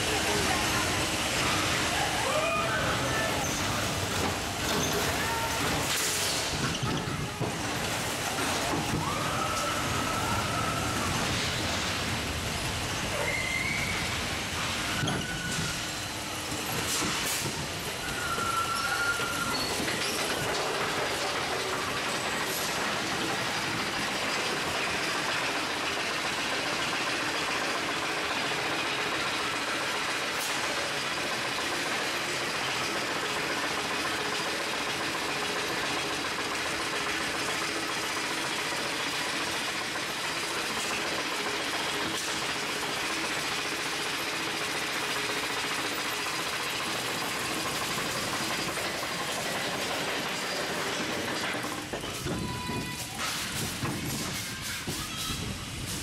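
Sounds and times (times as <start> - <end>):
roller coaster lift chain rattling: 0.0 - 56.0.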